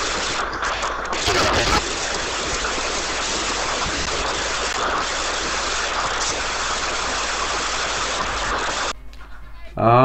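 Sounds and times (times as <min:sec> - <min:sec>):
steady rushing hiss: 0:00.0 - 0:09.0.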